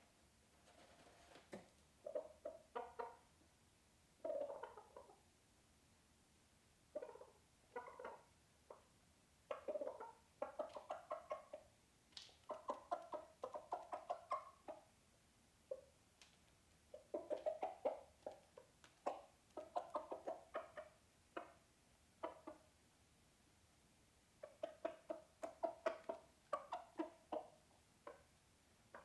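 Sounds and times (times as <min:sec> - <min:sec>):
chickens clucking faintly: 0:00.0 - 0:29.0.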